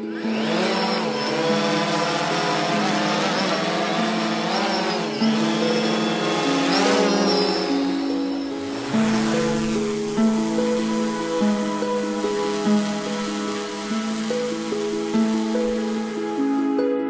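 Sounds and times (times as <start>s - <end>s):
toy drone motors whining: 0.0s - 16.4s
background music: 0.0s - 17.0s.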